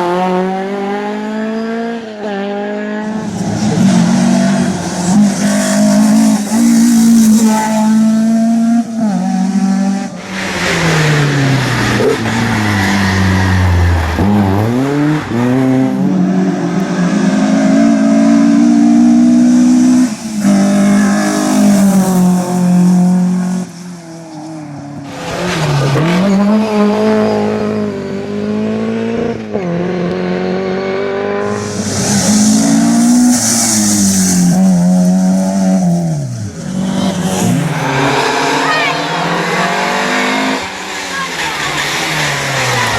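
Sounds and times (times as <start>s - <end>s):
rally car engines revving past: 0.0s - 42.9s.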